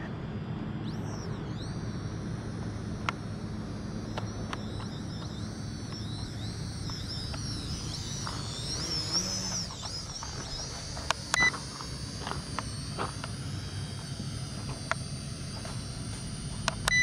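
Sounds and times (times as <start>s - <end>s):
drone propellers whining: 0.0s - 17.0s
sharp clicks: 0.8s - 17.0s.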